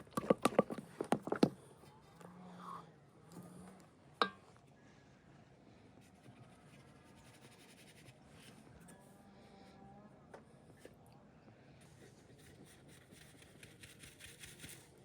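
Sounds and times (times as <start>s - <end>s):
faint low background noise: 0.0s - 14.2s.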